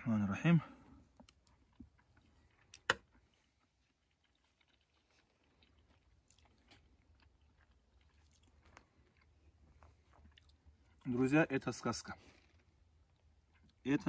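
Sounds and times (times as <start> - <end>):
person chewing: 1.0 - 11.1, 12.2 - 13.8.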